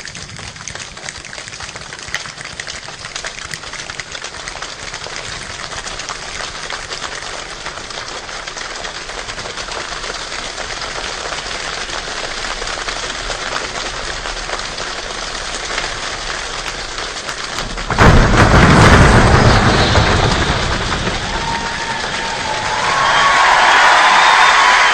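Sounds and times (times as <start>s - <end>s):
body percussion rain patter: 0.0s - 24.9s
body percussion thunder rumbling: 2.8s - 24.4s.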